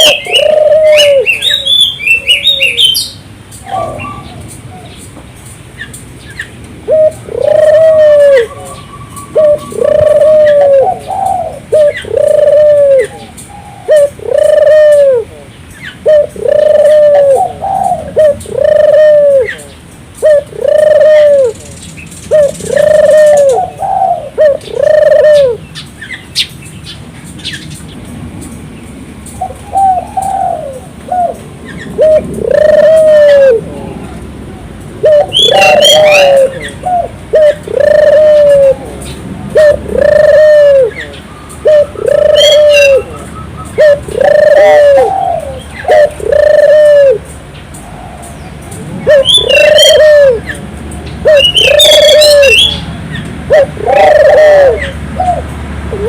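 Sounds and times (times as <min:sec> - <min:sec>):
dove cooing: 0:00.0 - 0:05.1, 0:06.8 - 0:21.7, 0:22.3 - 0:25.6, 0:29.4 - 0:50.6, 0:51.2 - 0:56.0.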